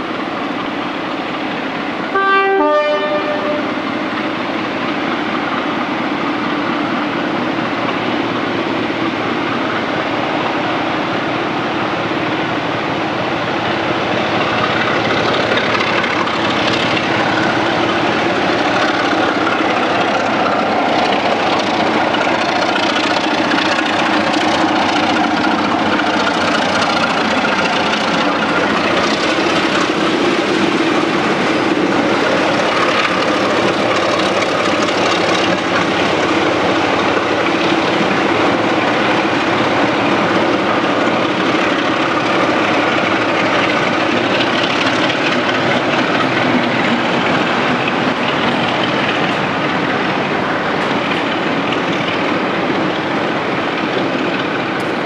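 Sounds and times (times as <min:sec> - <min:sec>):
passenger train rumbling past: 0:00.0 - 0:55.0.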